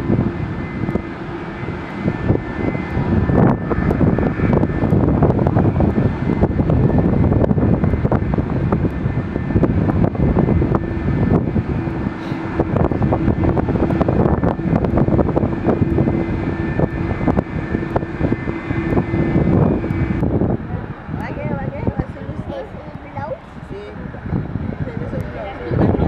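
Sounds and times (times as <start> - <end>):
airplane engines rumbling: 0.0 - 26.0
steady hum: 0.0 - 26.0.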